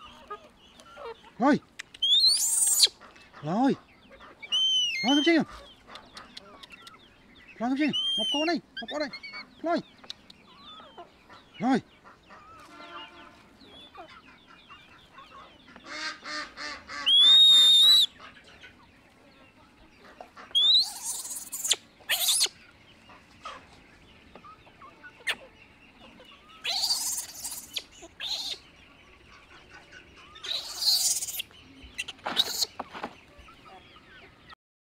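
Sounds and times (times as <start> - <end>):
chickens clucking and squawking: 0.0 - 34.6.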